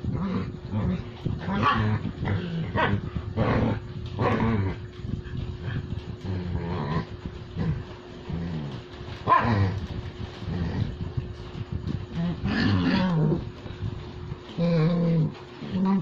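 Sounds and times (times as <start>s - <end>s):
dogs growling and grunting: 0.0s - 16.0s.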